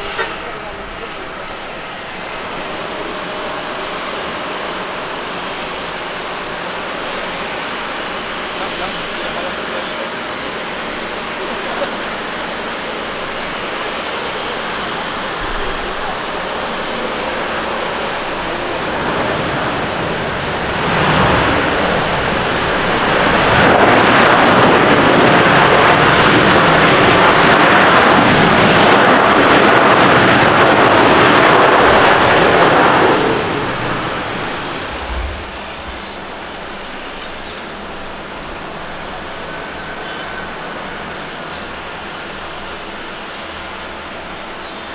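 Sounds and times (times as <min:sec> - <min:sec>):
jet engine noise: 0:00.0 - 0:44.9.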